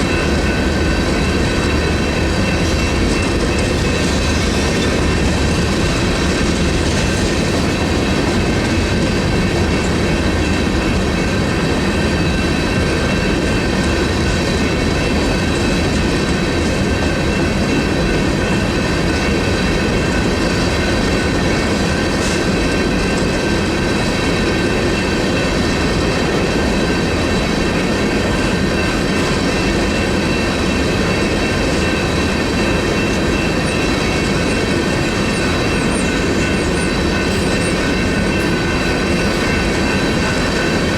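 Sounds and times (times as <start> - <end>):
crossing bells ringing: 0.0 - 40.9
train wheels clattering on rails: 0.0 - 40.9.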